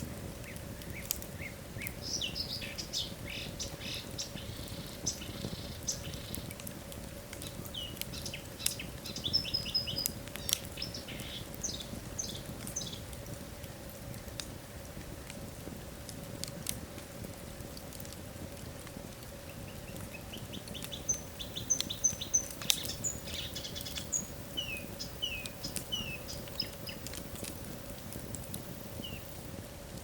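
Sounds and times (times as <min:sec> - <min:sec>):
faint steady hum: 0:00.0 - 0:30.0
wood fire crackling and popping: 0:00.0 - 0:30.0.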